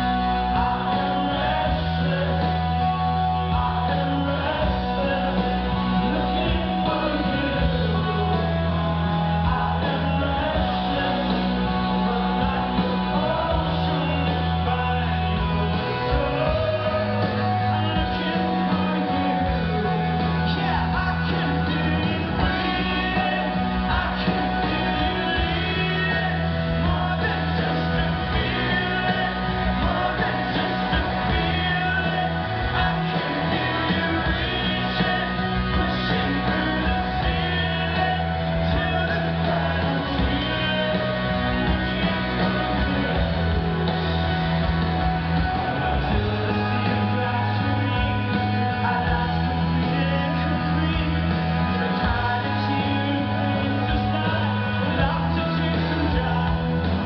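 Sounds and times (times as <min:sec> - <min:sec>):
man singing into microphone: 0:00.0 - 0:43.9, 0:45.7 - 0:57.0
live rock band playing: 0:00.0 - 0:57.0.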